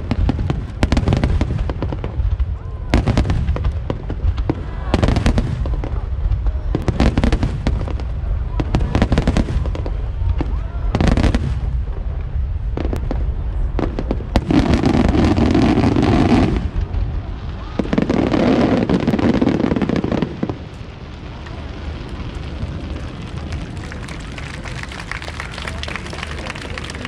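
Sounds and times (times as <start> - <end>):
fireworks reports and crackle: 0.0 - 27.0.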